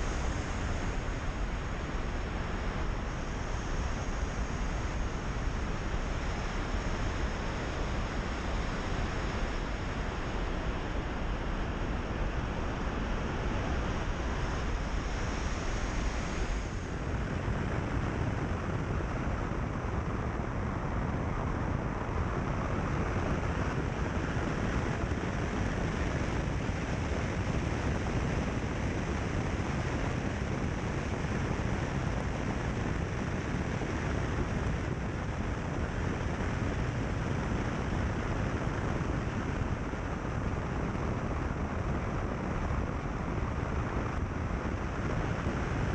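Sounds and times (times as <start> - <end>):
wind: 0.0 - 45.9.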